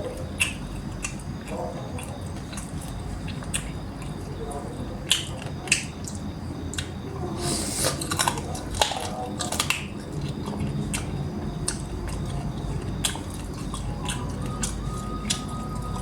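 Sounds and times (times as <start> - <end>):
sharp clicks and wet smacks: 0.0 - 7.1, 7.8 - 16.0
person chewing food: 0.0 - 16.0.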